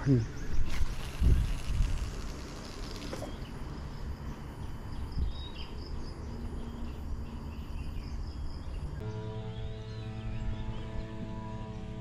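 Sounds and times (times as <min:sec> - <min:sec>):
insects and birds chirping: 0:00.0 - 0:12.0.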